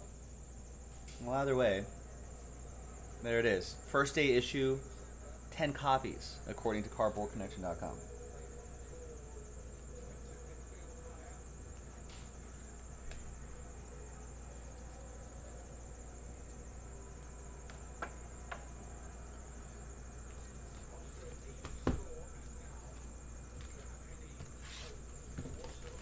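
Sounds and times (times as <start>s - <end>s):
faint high-pitched whine: 0.0s - 26.0s.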